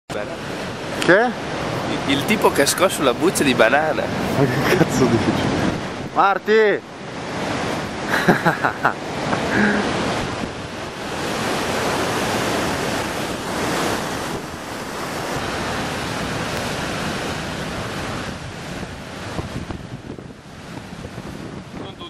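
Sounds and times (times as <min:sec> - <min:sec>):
waves breaking ashore: 0:00.1 - 0:22.0
wind buffeting microphone: 0:00.4 - 0:06.2, 0:09.0 - 0:22.0.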